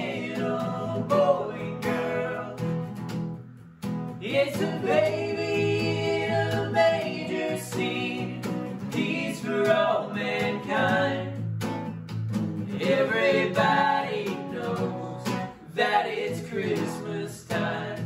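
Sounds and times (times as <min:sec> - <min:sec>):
person singing: 0:00.0 - 0:02.6, 0:04.2 - 0:11.4, 0:12.7 - 0:18.0
strummed acoustic guitar: 0:00.0 - 0:18.0.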